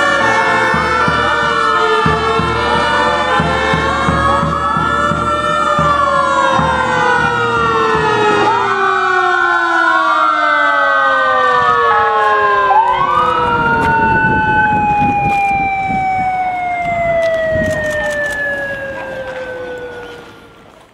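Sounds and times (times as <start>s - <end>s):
emergency vehicle sirens wailing: 0.0s - 20.9s.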